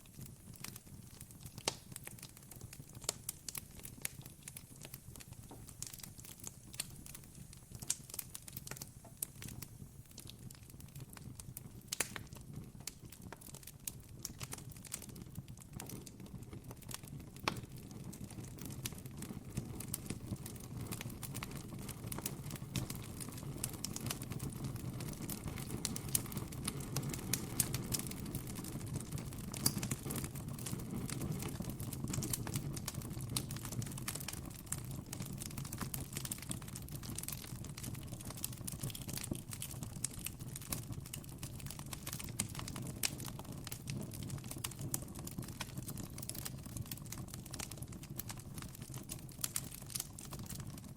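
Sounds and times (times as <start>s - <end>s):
low rumble of burning wood: 0.0s - 50.9s
campfire crackling: 0.1s - 16.2s, 16.9s - 50.7s.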